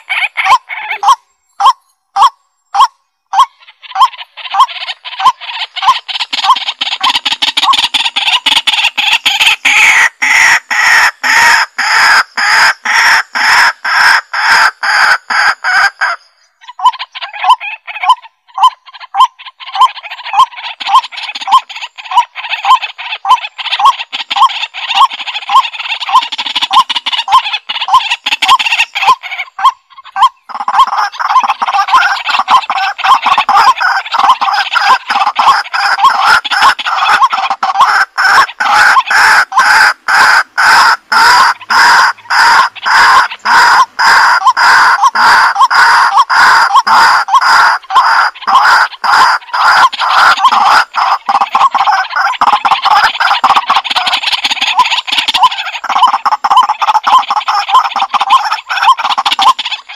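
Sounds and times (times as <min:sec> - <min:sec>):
poultry calling: 0:00.0 - 0:59.9.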